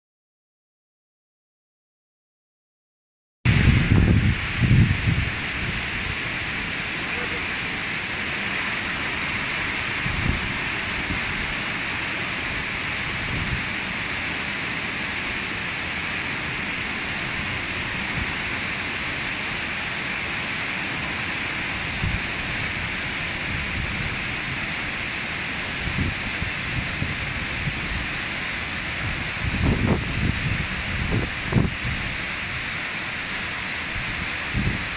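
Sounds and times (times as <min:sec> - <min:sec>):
waterfall rushing: 0:03.5 - 0:34.9.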